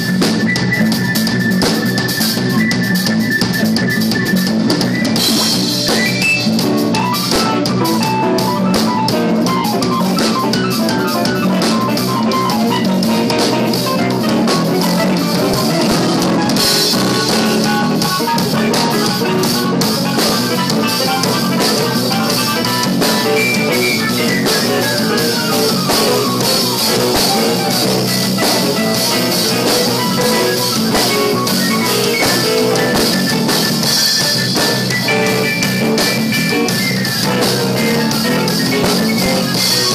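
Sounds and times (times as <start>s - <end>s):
busy drum kit: 0.0s - 39.9s
jazz fusion band music: 0.0s - 39.9s.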